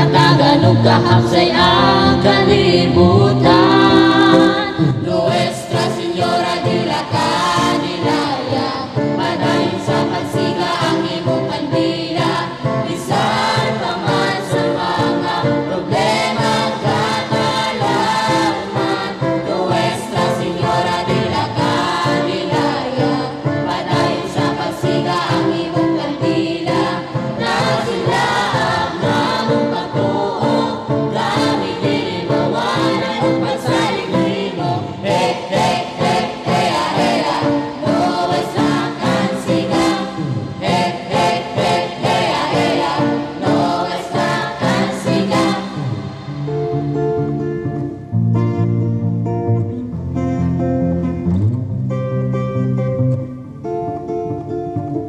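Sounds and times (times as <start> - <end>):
choir singing a hymn over a beat: 0.0 - 47.8.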